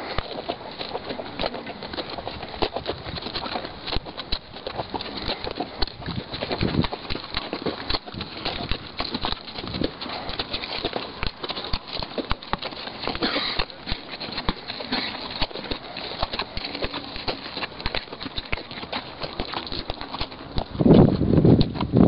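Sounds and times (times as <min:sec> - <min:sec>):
horse hooves on stony ground: 0:00.0 - 0:22.0.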